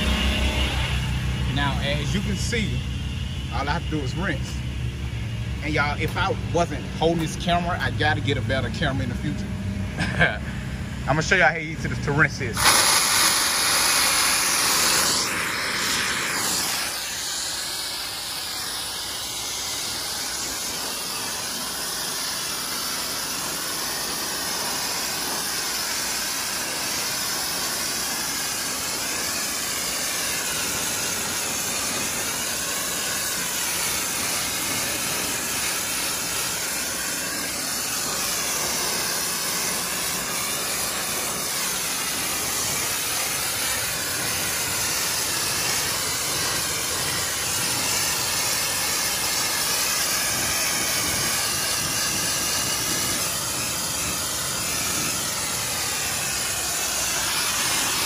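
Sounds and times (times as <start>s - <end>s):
pressure washer spraying concrete: 0.0s - 5.0s, 5.6s - 10.4s, 11.1s - 58.0s.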